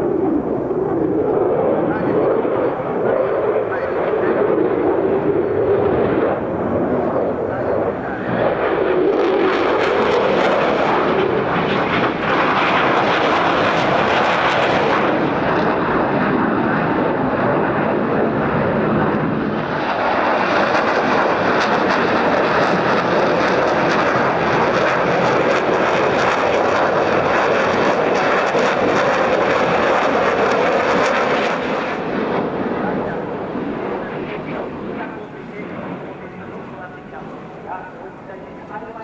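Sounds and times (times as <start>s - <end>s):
fighter jet flying past: 0.0s - 39.0s.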